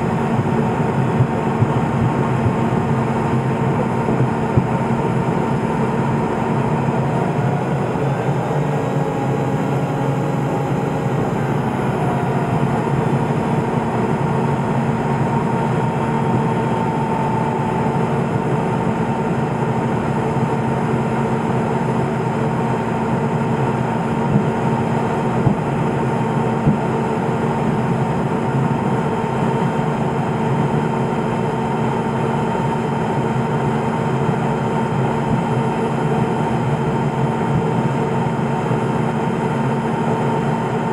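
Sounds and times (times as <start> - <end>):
aircraft engine drone: 0.0 - 40.9.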